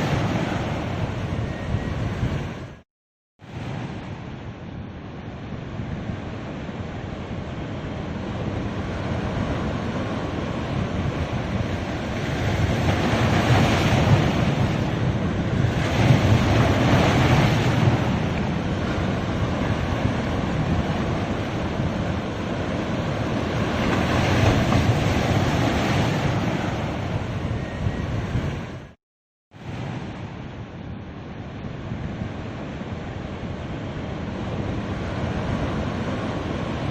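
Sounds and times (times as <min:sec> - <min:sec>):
ocean waves breaking on beach: 0:00.0 - 0:02.8, 0:03.4 - 0:29.0, 0:29.6 - 0:36.9.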